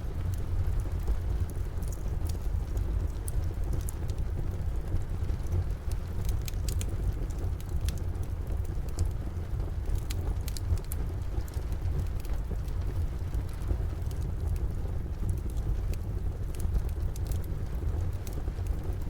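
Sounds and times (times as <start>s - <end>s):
rain rumble: 0.0s - 19.0s
wood fire crackling: 0.0s - 19.0s.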